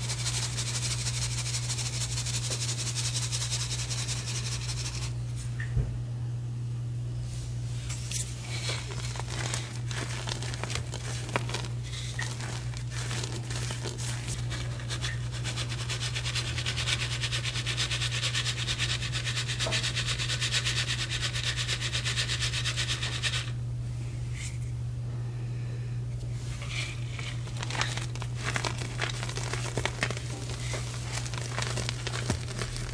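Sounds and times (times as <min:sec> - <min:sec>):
chalk rattling in metal sieve: 0:00.0 - 0:05.1, 0:08.4 - 0:23.5, 0:26.6 - 0:32.9
low steady hum: 0:00.0 - 0:32.9.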